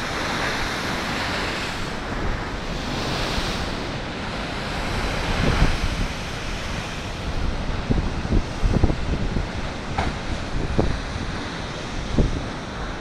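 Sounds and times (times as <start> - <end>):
surf breaking against sea wall: 0.0 - 13.0
wind gusting on microphone: 0.0 - 13.0.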